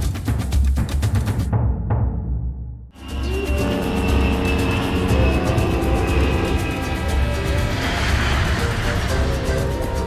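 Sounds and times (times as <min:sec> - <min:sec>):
background music with heavy drum beat: 0:00.0 - 0:10.0.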